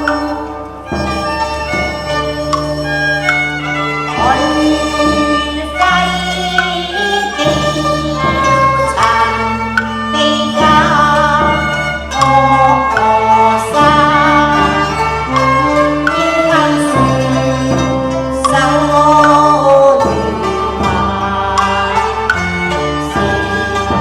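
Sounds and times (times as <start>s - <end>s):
bowed strings: 0.0s - 24.0s
person singing opera: 4.0s - 24.0s.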